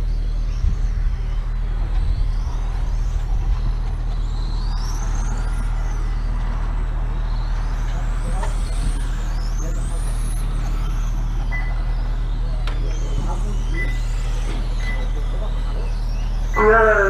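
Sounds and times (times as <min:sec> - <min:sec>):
racing motorcycle engine: 0:00.0 - 0:17.0.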